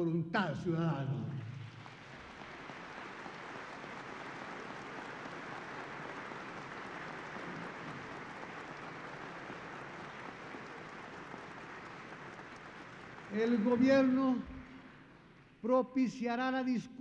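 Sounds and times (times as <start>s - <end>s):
audience applauding: 1.4s - 15.7s.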